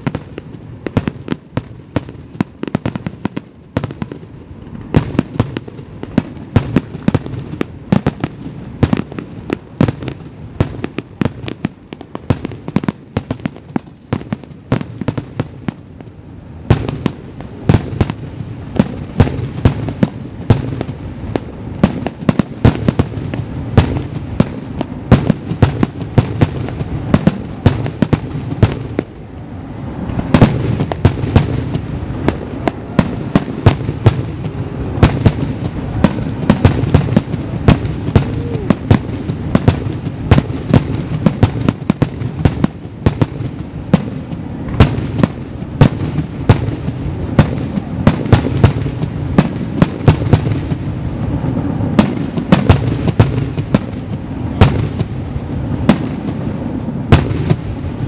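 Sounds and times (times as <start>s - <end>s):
continuous rumble: 0.0s - 58.0s.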